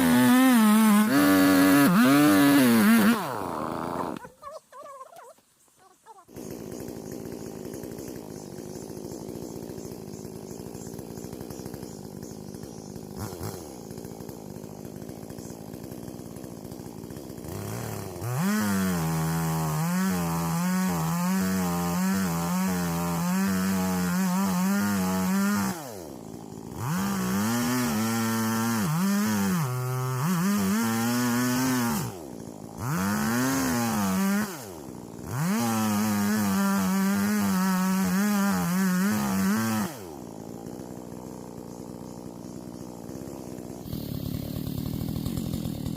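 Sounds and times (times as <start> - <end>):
chainsaw idling and revving: 0.0 - 4.3, 6.3 - 45.9.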